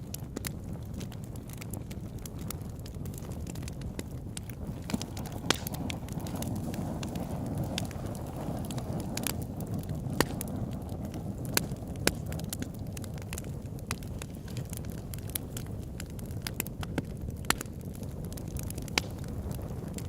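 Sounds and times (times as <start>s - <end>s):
campfire flames rushing: 0.0s - 20.0s
wood crackling and popping: 0.0s - 20.0s.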